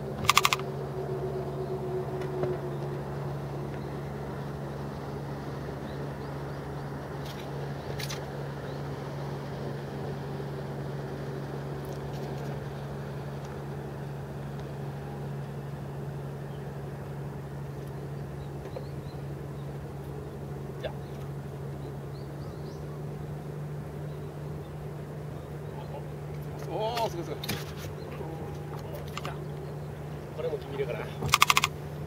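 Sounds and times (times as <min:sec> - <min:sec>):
boat engine humming: 0:00.0 - 0:32.0.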